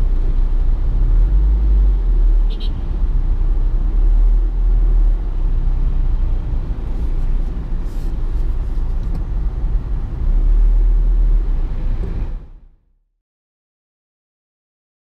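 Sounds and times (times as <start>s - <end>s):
car rumbling: 0.0s - 12.9s.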